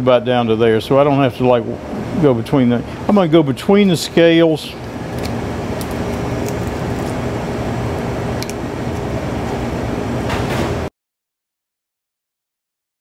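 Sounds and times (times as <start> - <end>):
kitchen ventilation hum: 0.0 - 10.9.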